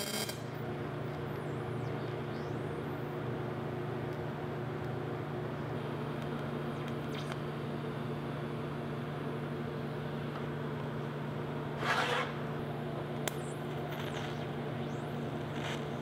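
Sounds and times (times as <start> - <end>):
welding machine electrical hum: 0.0 - 16.0.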